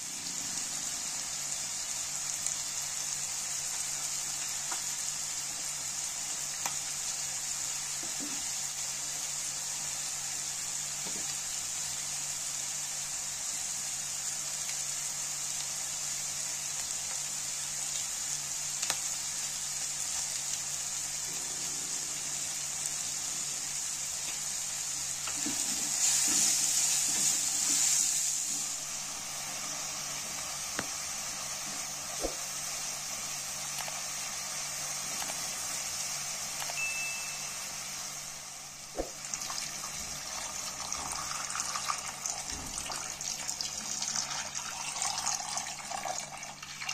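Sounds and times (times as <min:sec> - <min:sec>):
vegetables sizzling in oil: 0:00.0 - 0:46.9.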